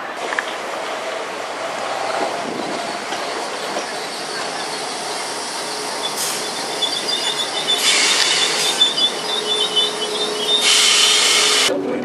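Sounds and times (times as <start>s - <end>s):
train wheels squealing on rails: 0.0s - 11.7s
train rumble: 0.0s - 12.0s
bursts of hiss: 0.7s - 11.7s.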